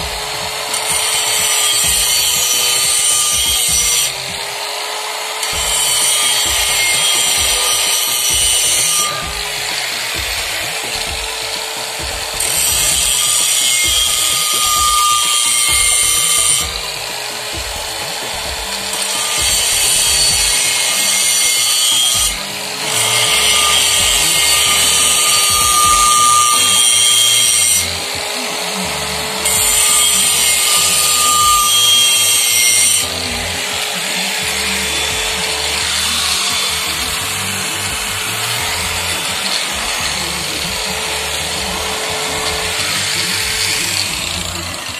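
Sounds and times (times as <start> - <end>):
angle grinder grinding metal: 0.0 - 44.9.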